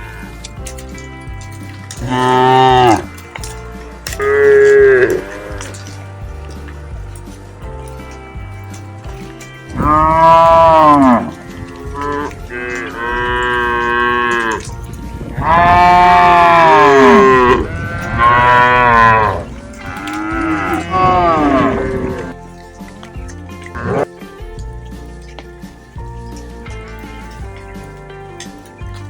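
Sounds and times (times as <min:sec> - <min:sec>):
cattle mooing: 0:00.0 - 0:29.0.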